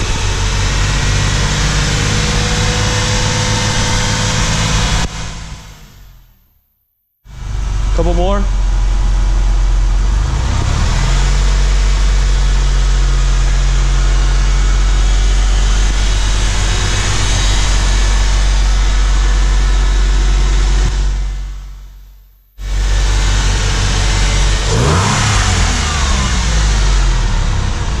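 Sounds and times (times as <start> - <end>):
car engine idling and revving: 0.0 - 6.4, 7.3 - 28.0.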